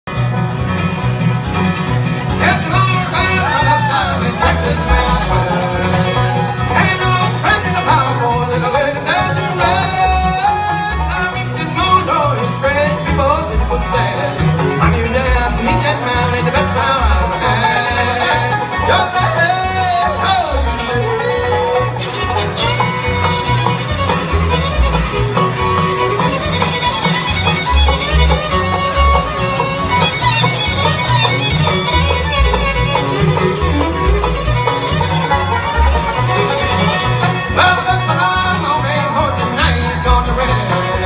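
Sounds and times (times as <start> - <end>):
banjo rolls: 0.1 - 41.0
fiddle melody: 0.1 - 41.0
strummed acoustic guitar: 0.1 - 41.0
upright bass: 0.1 - 41.0.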